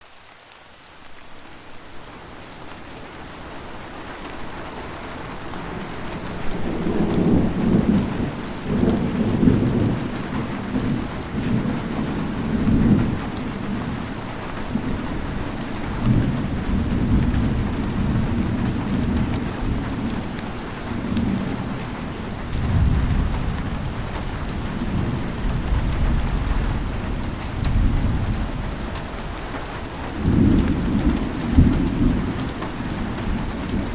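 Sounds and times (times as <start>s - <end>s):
heavy rain: 0.0s - 33.9s
thunder rumbling: 5.2s - 33.9s.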